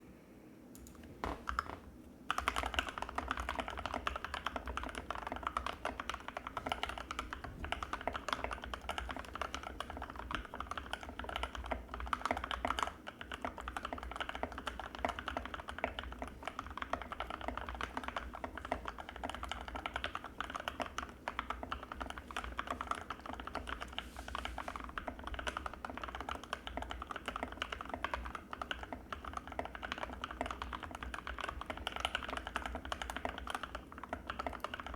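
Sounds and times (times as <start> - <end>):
fast typing on mechanical keyboard: 0.8 - 34.9.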